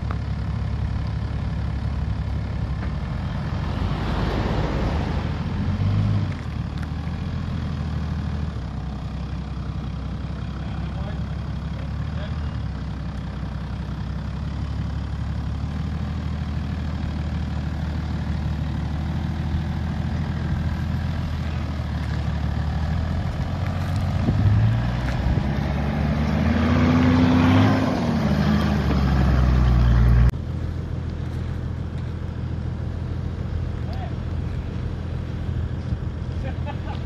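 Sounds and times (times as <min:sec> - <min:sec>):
vehicle engine revving: 0:00.8 - 0:37.0.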